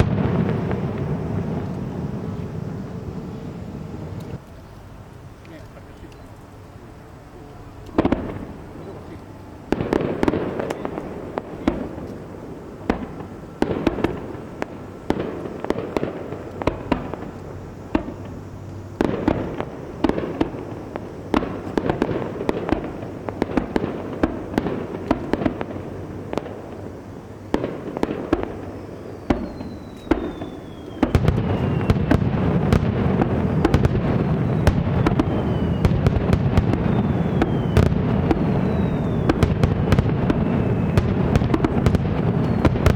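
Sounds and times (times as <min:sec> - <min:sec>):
falling firework whistles: 0:00.0 - 0:04.9, 0:07.4 - 0:42.9
firework crackle: 0:00.0 - 0:42.9
fireworks bursting: 0:00.0 - 0:42.9.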